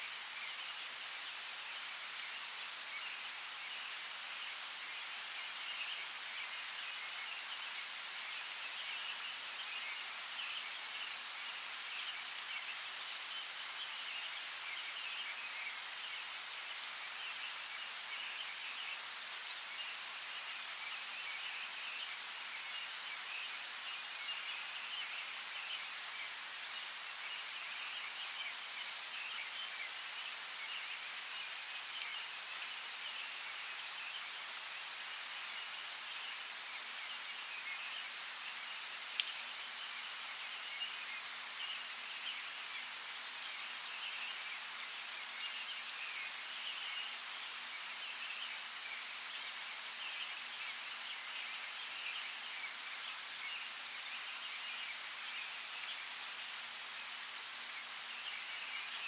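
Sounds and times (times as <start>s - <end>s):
steady rainfall hissing: 0.0s - 59.0s.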